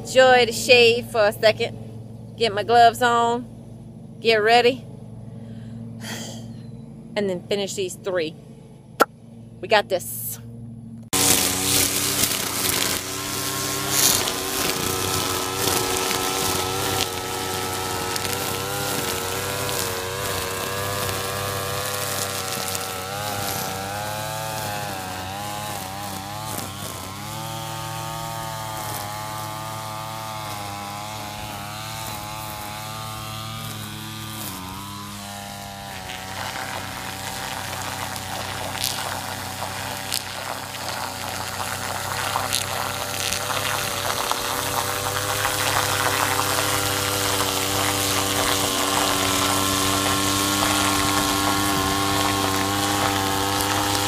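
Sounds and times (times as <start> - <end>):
string trimmer cutting grass: 0.0 - 8.3, 11.1 - 54.0.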